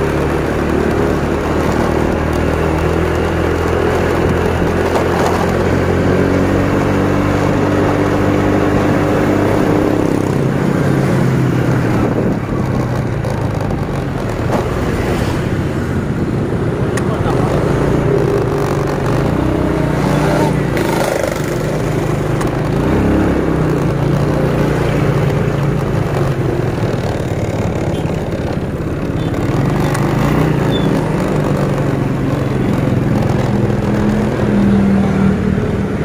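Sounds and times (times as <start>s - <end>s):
scooter engine running: 0.0s - 36.0s.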